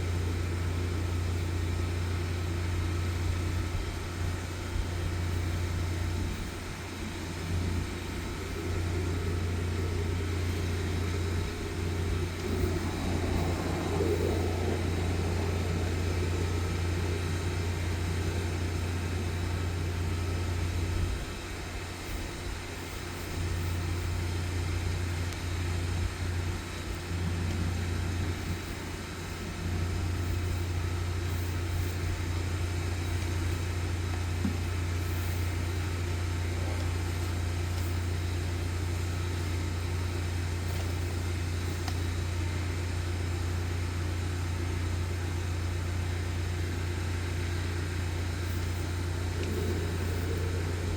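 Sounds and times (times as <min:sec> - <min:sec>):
sewer jetter engine humming: 0:00.0 - 0:50.9.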